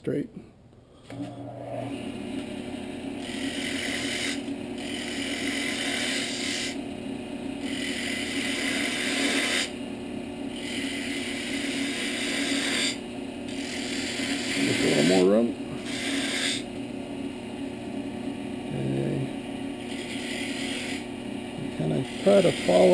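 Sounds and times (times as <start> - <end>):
wood lathe humming: 1.1 - 22.9
gouge scraping spinning wood: 1.8 - 17.4, 18.7 - 22.9.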